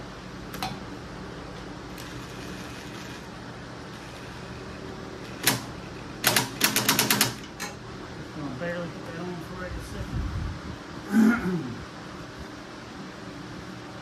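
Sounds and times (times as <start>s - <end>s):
electric fan running: 0.0s - 14.0s.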